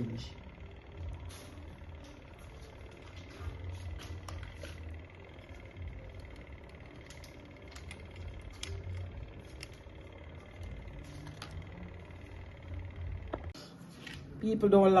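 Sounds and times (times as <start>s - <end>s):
air fryer humming: 0.0s - 15.0s.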